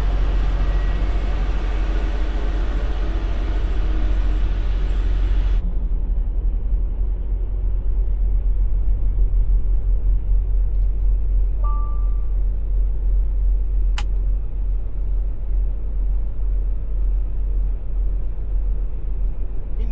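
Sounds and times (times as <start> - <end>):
diesel truck engine rumble: 0.0 - 19.9.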